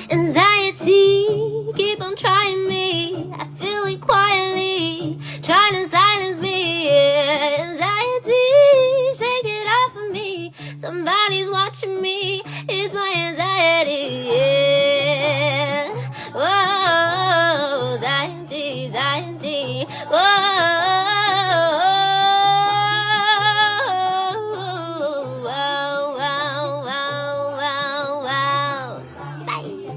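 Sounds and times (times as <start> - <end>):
woman singing vocal runs: 0.0 - 29.9.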